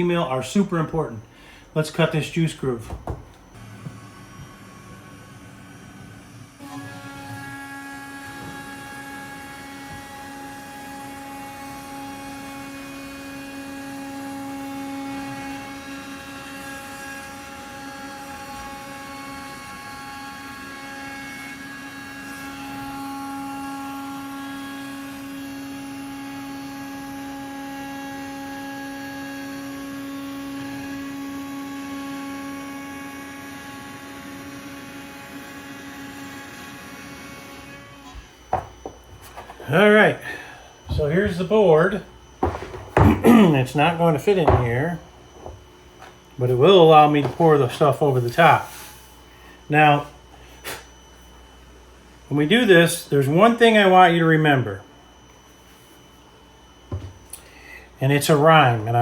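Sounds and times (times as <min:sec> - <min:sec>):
router spindle whining: 0:01.7 - 0:49.0.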